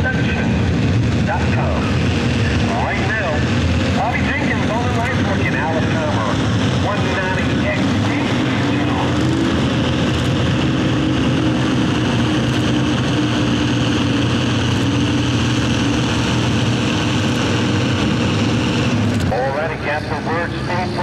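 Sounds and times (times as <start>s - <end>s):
tractor engine under full load: 0.0s - 21.0s.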